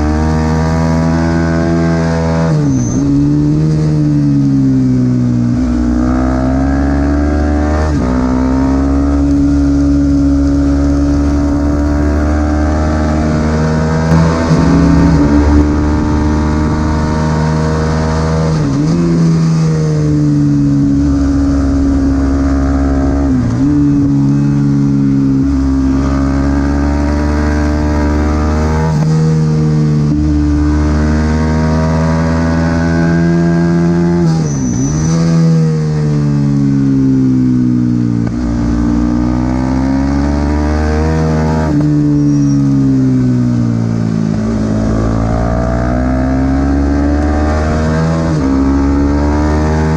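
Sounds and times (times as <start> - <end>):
race motorcycle engine revving: 0.0 - 34.5, 38.2 - 49.9.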